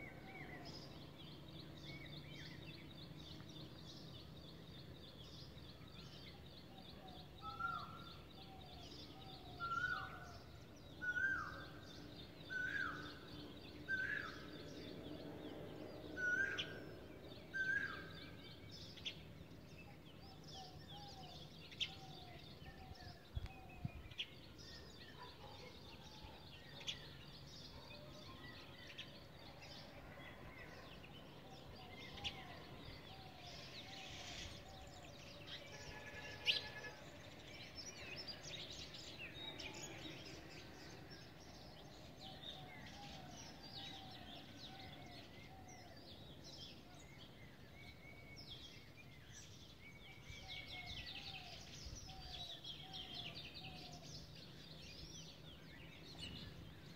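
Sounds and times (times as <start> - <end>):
loud clear bird calls: 0.0 - 56.9
small birds chirping: 0.0 - 56.9.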